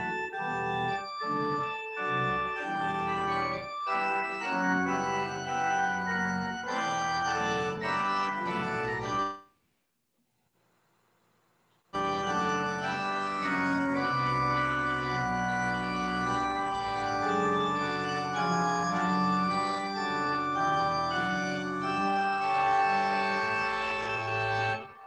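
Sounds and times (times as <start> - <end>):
organ playing sustained chords: 0.0 - 9.4, 12.0 - 25.0.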